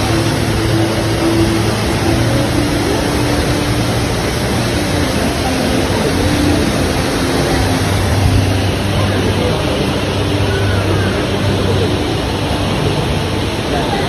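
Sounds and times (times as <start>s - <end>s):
indoor waterfall rushing: 0.0s - 14.0s.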